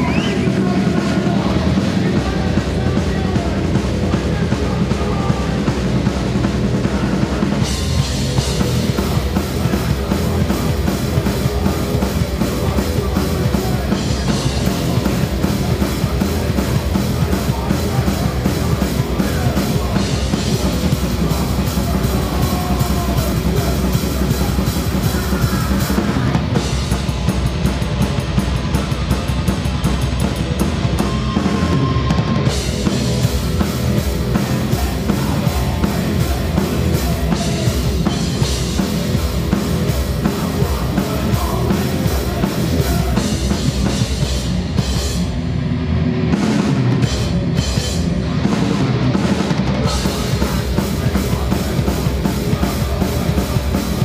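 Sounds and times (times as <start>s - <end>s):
drum kit: 0.0s - 54.0s
rock band playing: 0.0s - 54.0s.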